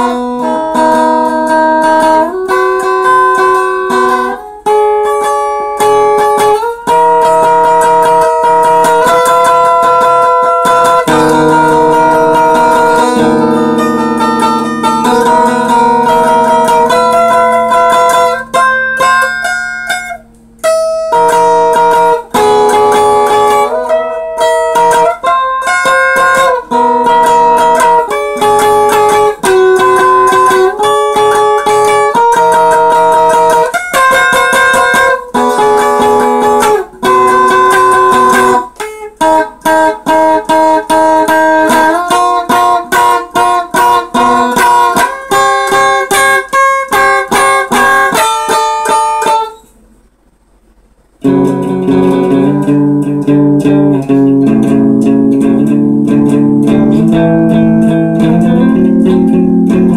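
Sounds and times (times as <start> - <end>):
electric guitar picked notes: 0.0 - 50.1, 51.0 - 59.9.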